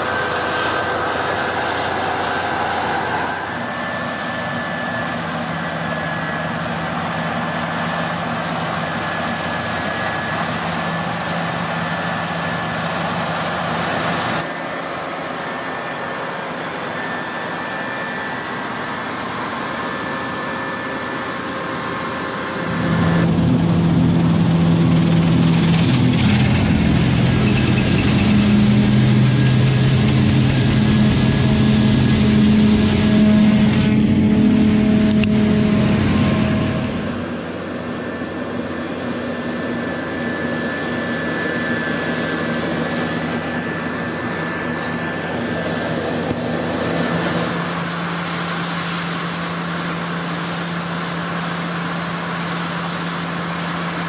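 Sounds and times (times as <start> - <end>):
combine harvester engine and threshing drone: 0.0 - 54.0
deep engine hum: 0.0 - 54.0
steady whining tones: 0.0 - 54.0.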